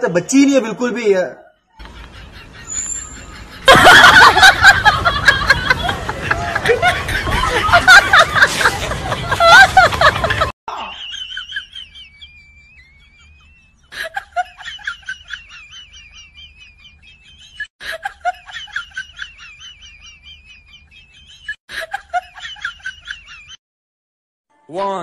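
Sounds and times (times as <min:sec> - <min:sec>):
sped-up giggling laughter: 0:01.8 - 0:23.6.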